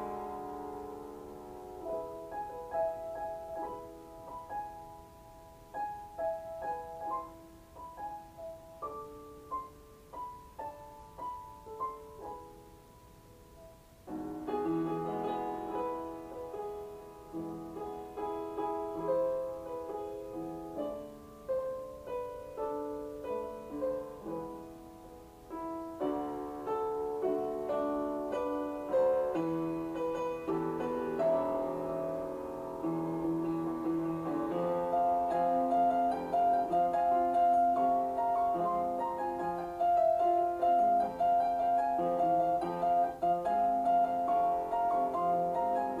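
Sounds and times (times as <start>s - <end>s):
gentle piano music: 0.0s - 46.0s.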